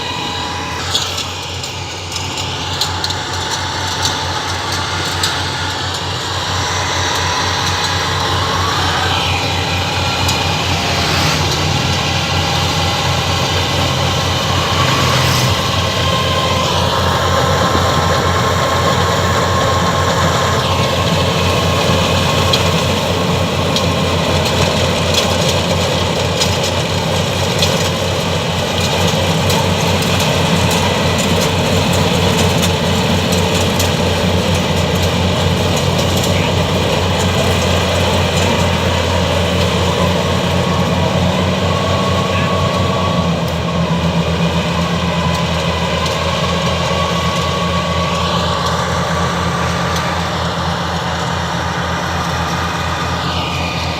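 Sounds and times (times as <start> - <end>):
combine harvester engine drone: 0.0 - 53.9
high-pitched whine: 0.0 - 53.9
machinery clatter: 0.0 - 53.9.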